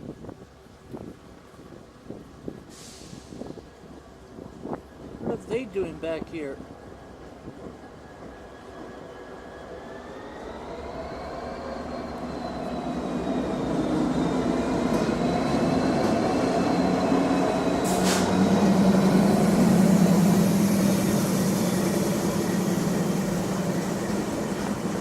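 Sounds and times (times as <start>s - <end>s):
diesel locomotive engine drone: 2.8s - 25.0s.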